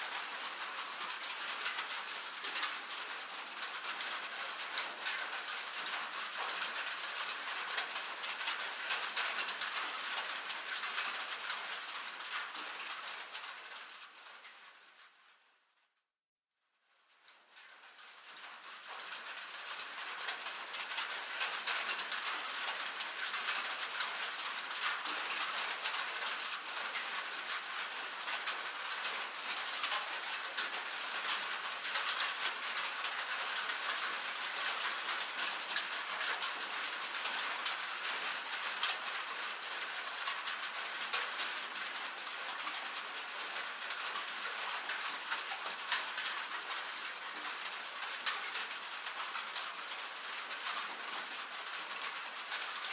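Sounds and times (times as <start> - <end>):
rain on a metal roof: 0.0 - 15.7, 16.8 - 52.9.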